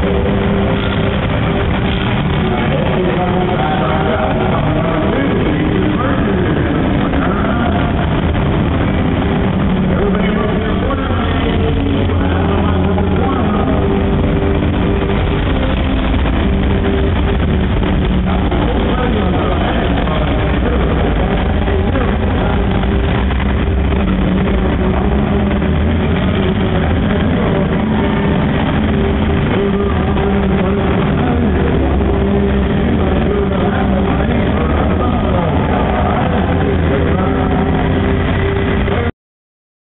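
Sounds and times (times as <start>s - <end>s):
music: 0.0s - 39.1s
tractor engines running: 0.0s - 39.1s
voices: 0.0s - 39.1s.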